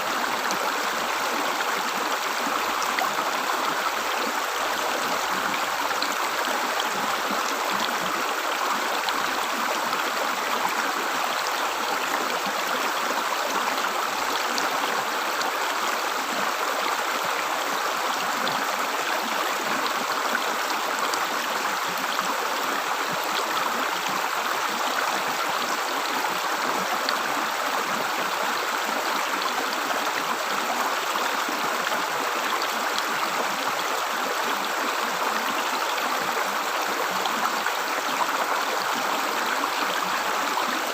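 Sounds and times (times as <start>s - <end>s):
river water gurgling: 0.0s - 40.9s.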